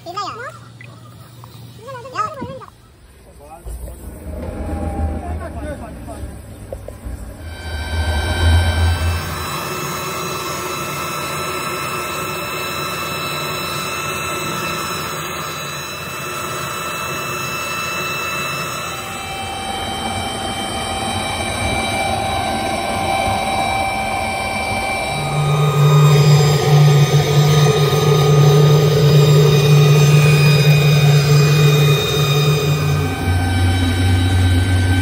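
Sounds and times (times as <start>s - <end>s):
high whining tones: 0.0s - 35.0s
low steady whine: 0.0s - 35.0s
factory machinery running: 3.4s - 35.0s.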